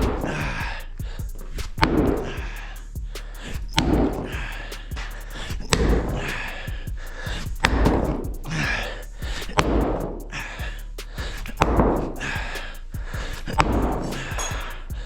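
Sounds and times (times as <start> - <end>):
hard breathing: 0.0 - 15.0.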